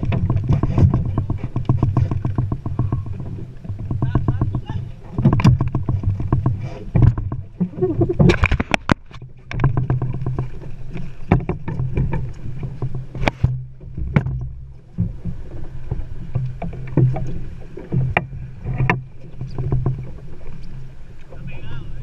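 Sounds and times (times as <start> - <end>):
boat motor humming: 0.0 - 22.0
knocks and clatter on boat: 0.0 - 22.0.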